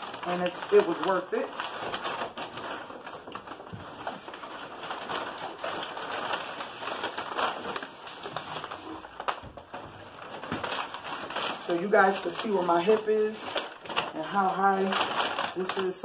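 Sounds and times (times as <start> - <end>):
paper wrapping crinkling: 0.0 - 16.0.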